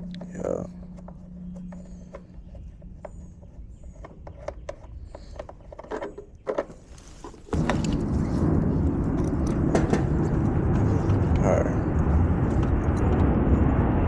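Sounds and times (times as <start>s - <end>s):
loud steady mechanical noise: 0.0s - 6.1s, 7.5s - 14.0s.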